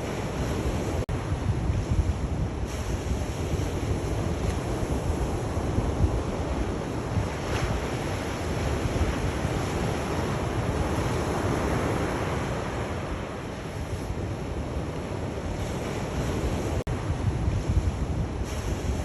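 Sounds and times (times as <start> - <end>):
sea waves washing in: 0.0 - 19.0
wind rumble on microphone: 0.0 - 19.0.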